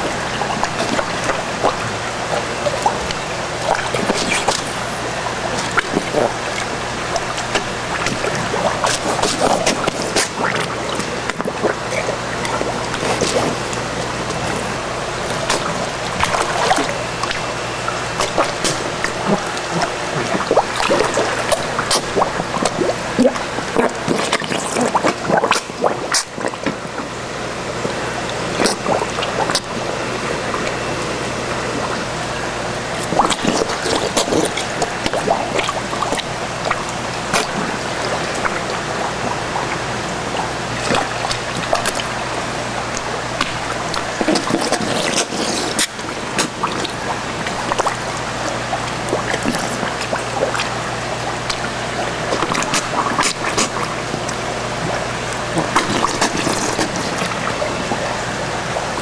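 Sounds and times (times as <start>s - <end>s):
fish slurping and splashing: 0.0s - 59.0s
moving water rushing: 0.0s - 59.0s.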